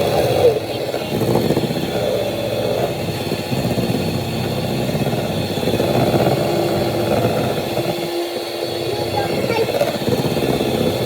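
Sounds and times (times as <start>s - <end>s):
electric mixer beating batter: 0.0s - 11.0s.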